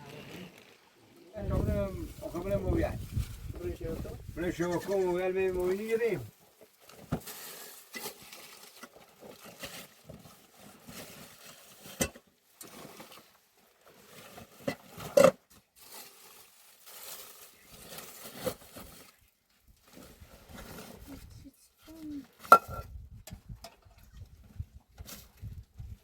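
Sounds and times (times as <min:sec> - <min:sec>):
rustling: 0:00.0 - 0:22.8.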